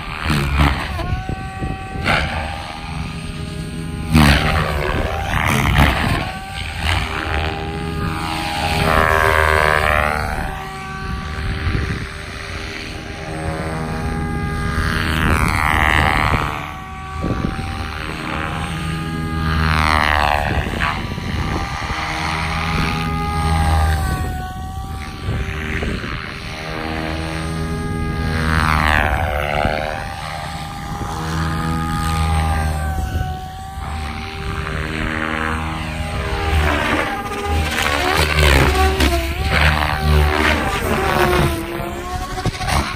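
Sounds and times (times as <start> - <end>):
electric motor whine: 0.0 - 42.9
rotor blades whooshing: 0.0 - 42.9.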